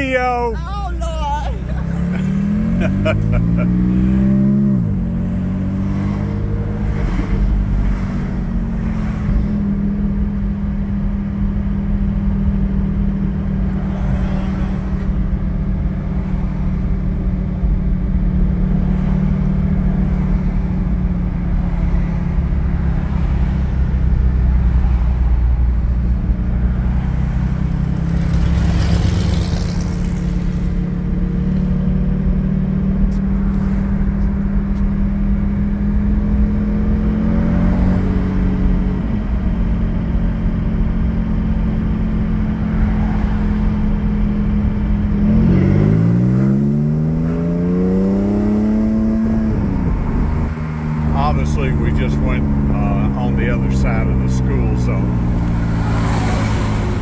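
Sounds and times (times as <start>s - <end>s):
car engine at low revs: 0.0s - 57.0s
road and wind noise: 0.0s - 57.0s.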